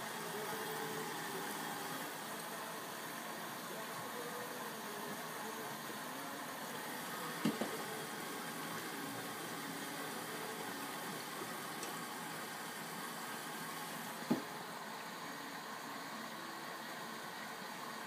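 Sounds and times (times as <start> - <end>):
washing machine running: 0.0 - 4.2, 4.8 - 18.0.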